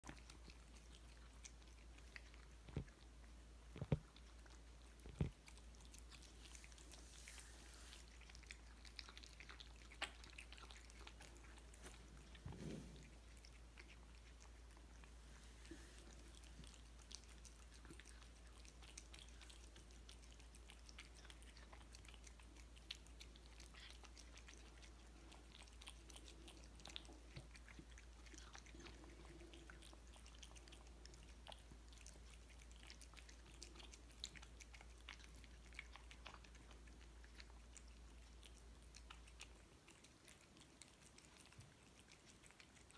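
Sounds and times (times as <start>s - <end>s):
cats chewing and licking: 0.0s - 42.9s.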